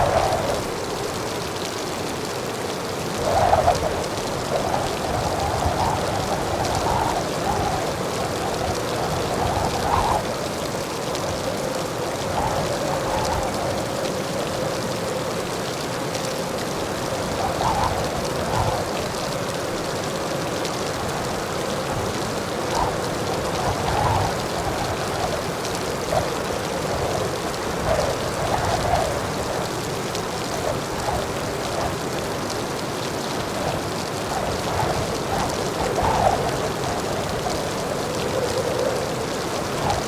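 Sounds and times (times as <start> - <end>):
heavy rain falling: 0.0 - 40.0
raindrops splashing: 0.0 - 40.0.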